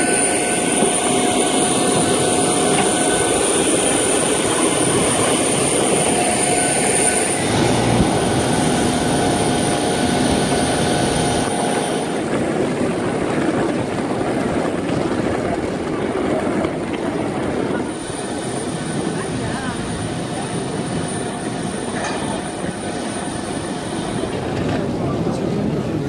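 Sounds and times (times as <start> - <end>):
jet engine whine: 0.0 - 26.0
loud rumbling rush: 0.0 - 26.0.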